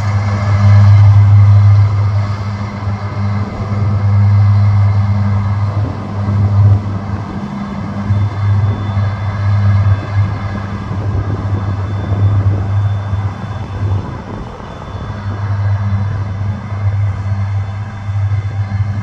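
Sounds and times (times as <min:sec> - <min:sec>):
mower engine hum: 0:00.0 - 0:19.0.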